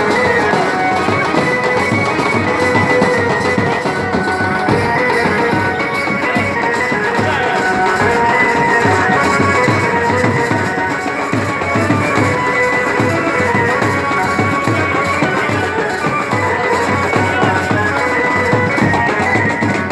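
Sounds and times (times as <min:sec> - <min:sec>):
music with steady drum beat: 0:00.0 - 0:19.9.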